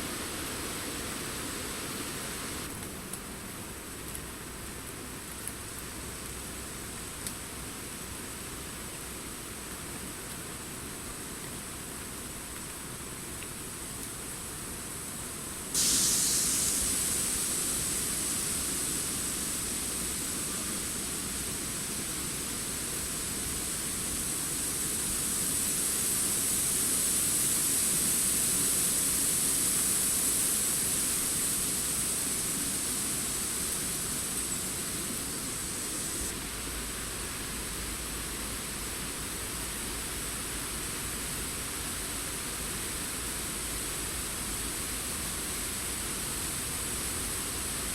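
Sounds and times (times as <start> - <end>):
wind through foliage: 0.0 - 47.9.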